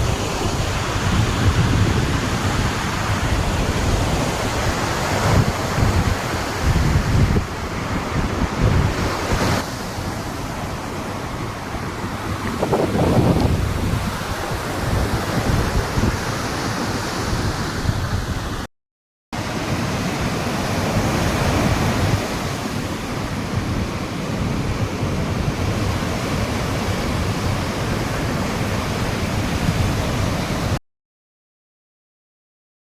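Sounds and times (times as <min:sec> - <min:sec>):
sea surf breaking on beach: 0:00.0 - 0:18.7, 0:19.4 - 0:30.8.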